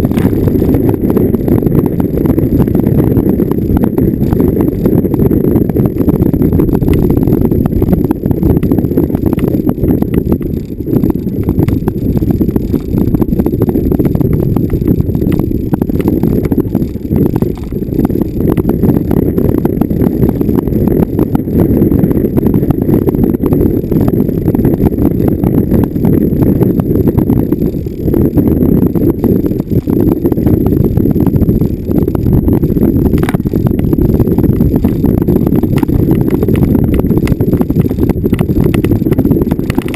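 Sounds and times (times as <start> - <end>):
vehicle rumbling off-road: 0.0 - 39.9.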